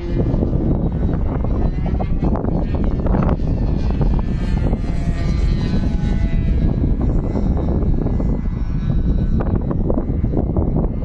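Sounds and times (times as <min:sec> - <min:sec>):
model airplane engine whine: 0:00.0 - 0:11.0
wind rumble on microphone: 0:00.0 - 0:11.0.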